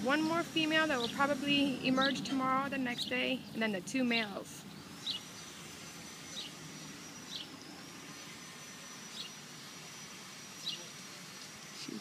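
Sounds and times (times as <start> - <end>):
thin high-pitched whine: 0.0 - 12.0
bird chirping: 0.1 - 12.0.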